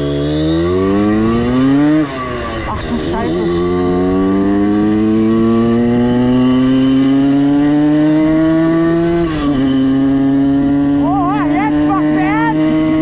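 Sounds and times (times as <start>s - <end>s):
moped engine accelerating: 0.0s - 13.0s.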